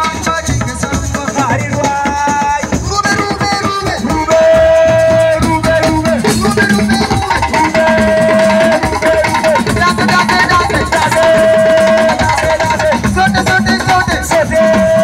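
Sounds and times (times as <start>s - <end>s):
hand drums: 0.0s - 15.0s.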